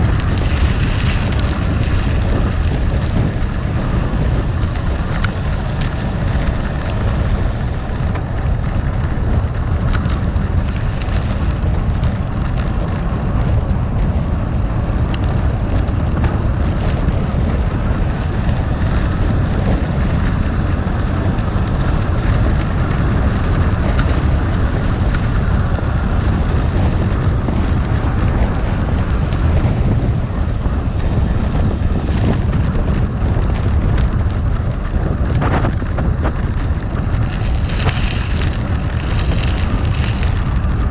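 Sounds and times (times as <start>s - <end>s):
bike tyres crunching on gravel: 0.0s - 40.9s
wind on microphone: 0.0s - 40.9s.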